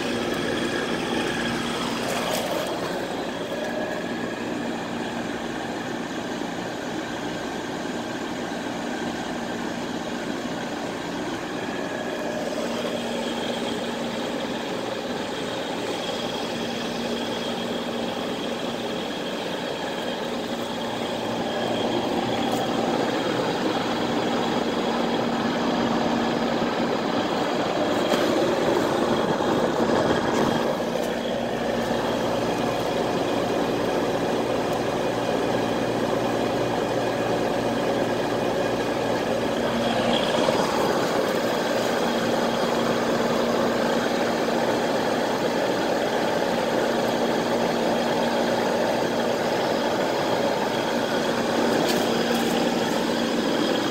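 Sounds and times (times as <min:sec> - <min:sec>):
compressor hum: 0:00.0 - 0:53.9
condenser fan whoosh: 0:00.0 - 0:53.9.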